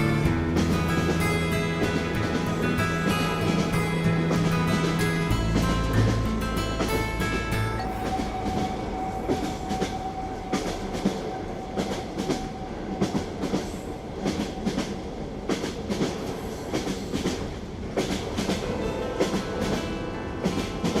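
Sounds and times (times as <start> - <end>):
clickety-clack over rail joints: 0.0 - 21.0
train wheels rumbling on rails: 0.0 - 21.0.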